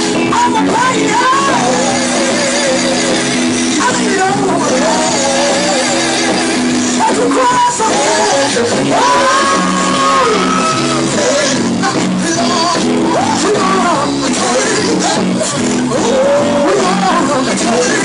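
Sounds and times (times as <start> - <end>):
instrumental chords: 0.0 - 18.0
person singing gospel: 0.0 - 18.0.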